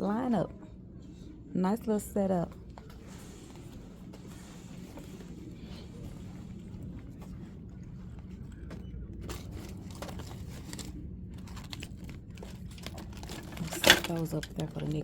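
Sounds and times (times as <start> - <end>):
steady low hum: 0.0 - 15.0
handbags rustling and clicking: 2.6 - 15.0.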